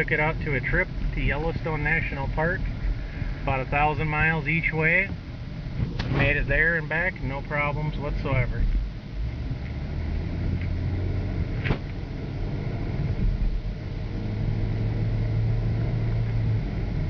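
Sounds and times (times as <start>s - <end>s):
car cabin road and engine drone: 0.0s - 17.0s.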